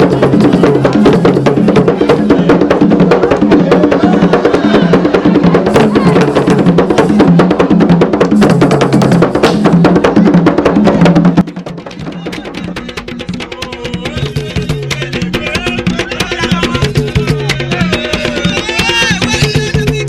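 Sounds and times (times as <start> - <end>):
fast drum percussion: 0.0 - 20.0.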